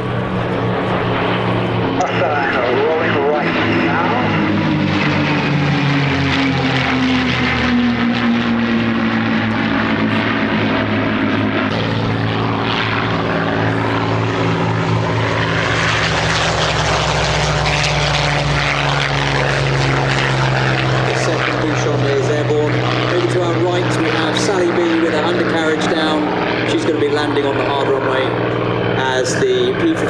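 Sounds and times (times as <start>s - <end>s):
propeller aircraft engines: 0.0s - 30.0s.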